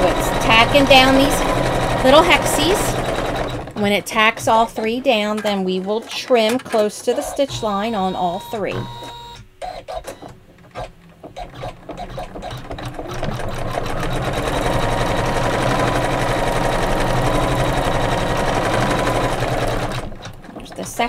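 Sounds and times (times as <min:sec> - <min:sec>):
embroidery machine stitching: 0:00.0 - 0:21.0.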